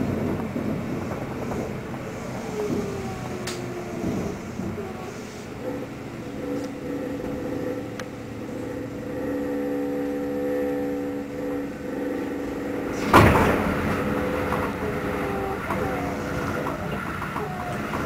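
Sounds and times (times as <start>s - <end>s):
electric train hum: 0.0s - 18.0s
passing train rush: 0.0s - 18.0s.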